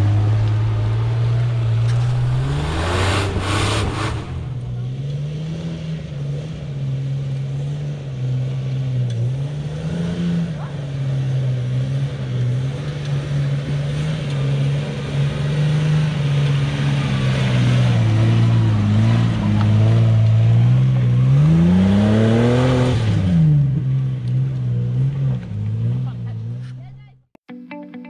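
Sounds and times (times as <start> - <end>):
four-wheel-drive engine revving: 0.0 - 27.0.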